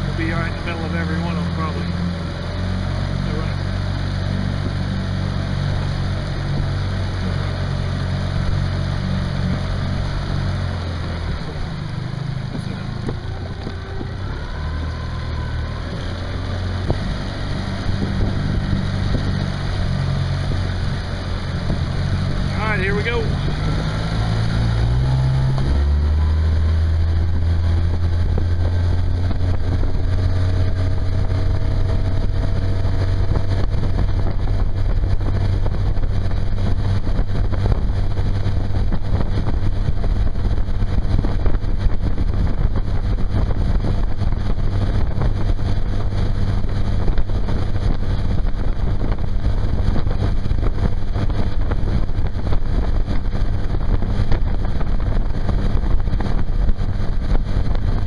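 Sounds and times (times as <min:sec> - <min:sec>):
outboard motor revving: 0:00.0 - 0:58.0
wind on microphone: 0:00.0 - 0:58.0.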